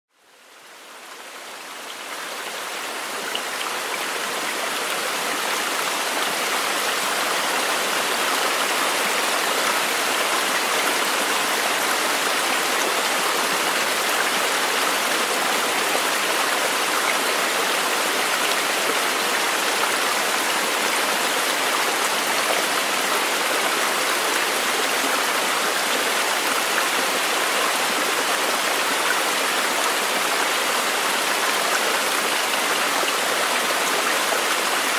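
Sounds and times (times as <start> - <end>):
rushing water: 0.2 - 34.9.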